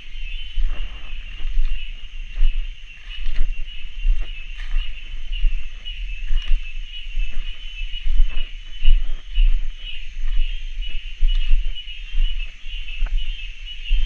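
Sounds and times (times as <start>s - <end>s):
cicadas chorus: 0.0s - 14.0s
wind gusting against microphone: 0.0s - 14.0s.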